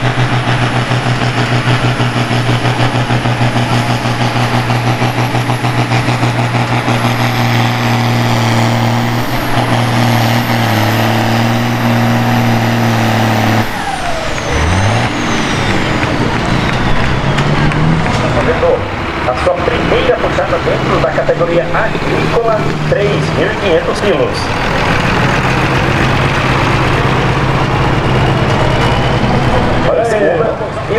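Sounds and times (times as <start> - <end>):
diesel engine running hard: 0.0 - 30.9.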